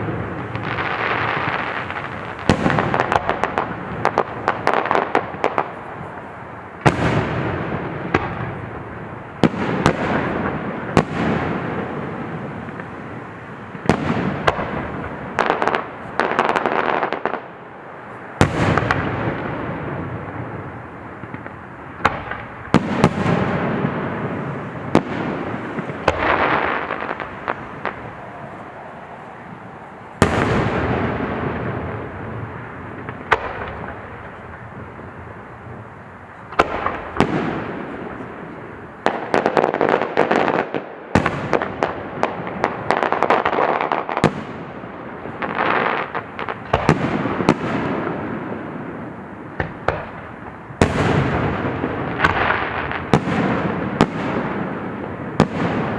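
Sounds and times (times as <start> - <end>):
firework booms with rumble: 0.0 - 6.1, 6.8 - 17.4, 18.4 - 55.9
fireworks crackling: 0.0 - 55.9.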